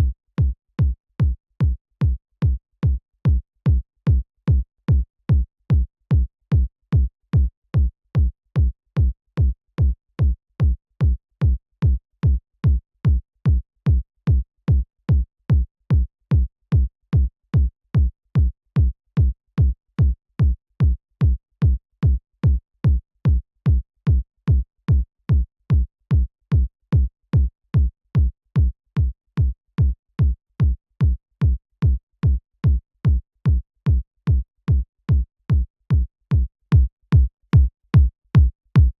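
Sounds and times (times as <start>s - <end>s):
electronic kick drum: 0.0s - 39.0s.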